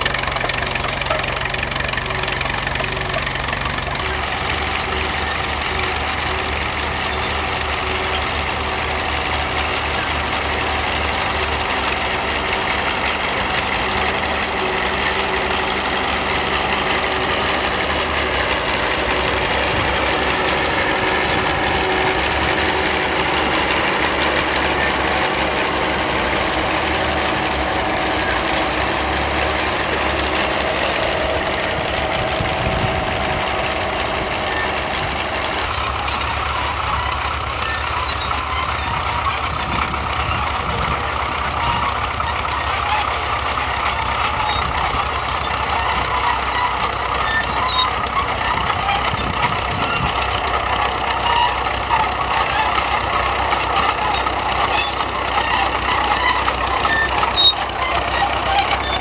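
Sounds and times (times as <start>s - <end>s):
steel tracks clanking and squeaking: 0.0s - 59.0s
tractor engines running: 0.0s - 59.0s.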